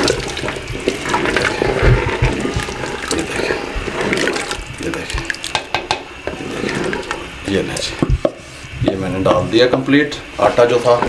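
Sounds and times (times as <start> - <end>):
liquid pouring and sloshing: 0.0 - 9.0.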